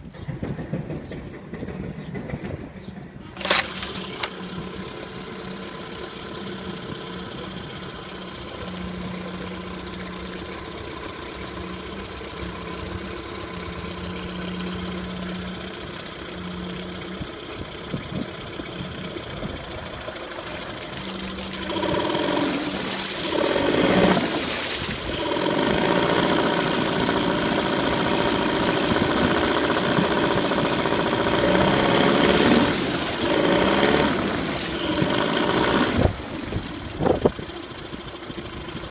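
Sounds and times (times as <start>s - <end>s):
outboard motor running: 3.2s - 38.9s.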